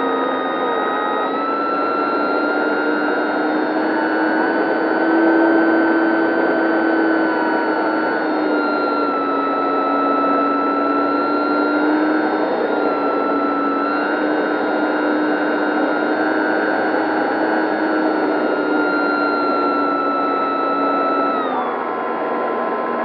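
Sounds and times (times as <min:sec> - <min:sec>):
electric motor and propeller whining: 0:00.0 - 0:23.0.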